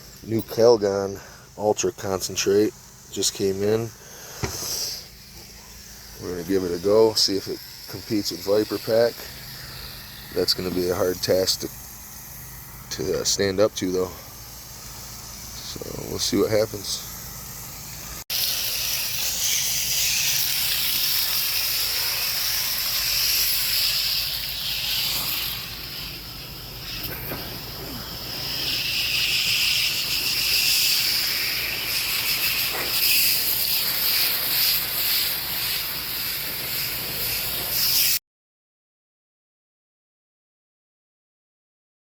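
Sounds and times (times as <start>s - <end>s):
spray can hissing: 0.0s - 38.2s.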